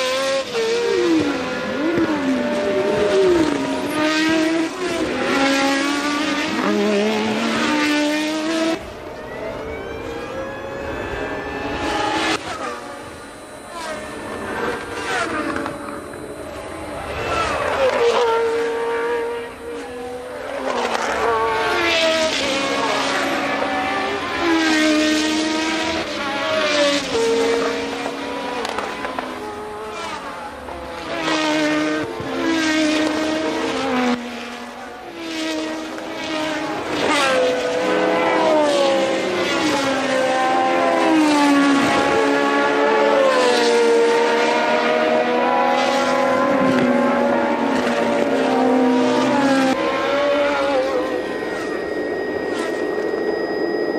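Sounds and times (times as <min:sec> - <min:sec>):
race car engines at full revs: 0:00.0 - 0:53.9.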